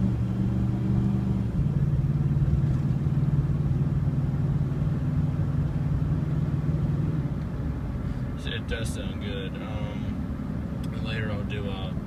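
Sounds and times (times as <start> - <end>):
truck exhaust drone: 0.0 - 12.0.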